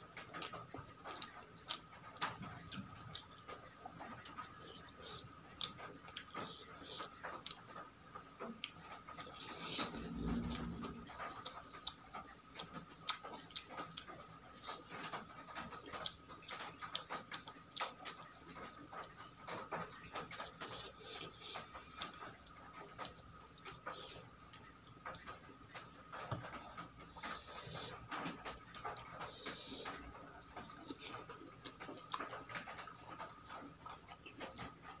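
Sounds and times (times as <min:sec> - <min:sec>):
person chewing and mouth smacking: 0:00.1 - 0:07.8, 0:08.5 - 0:35.0.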